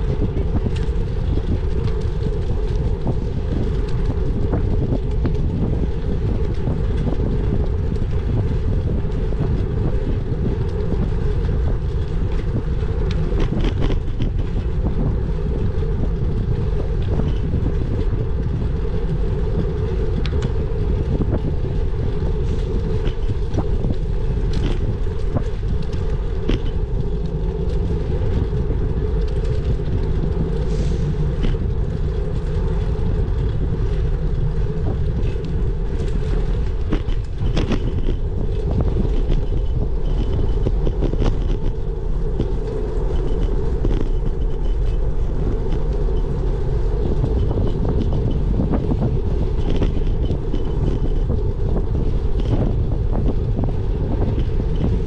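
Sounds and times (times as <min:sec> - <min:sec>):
small clicks and rattles: 0:00.0 - 0:55.0
wind and road rumble: 0:00.0 - 0:55.0.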